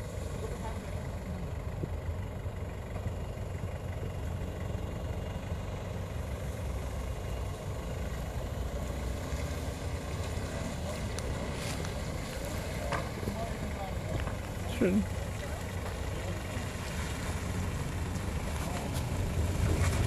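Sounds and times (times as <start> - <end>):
engine idling low rumble: 0.0 - 20.0.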